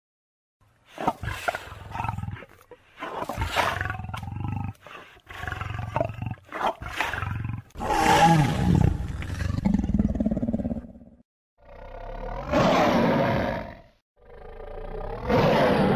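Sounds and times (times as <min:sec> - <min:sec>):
deep animal roars and growls: 0:01.0 - 0:15.9.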